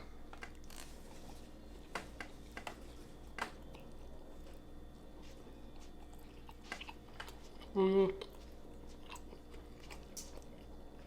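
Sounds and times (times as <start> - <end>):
steady low hum: 0.0 - 11.0
soft chewing: 0.3 - 11.0.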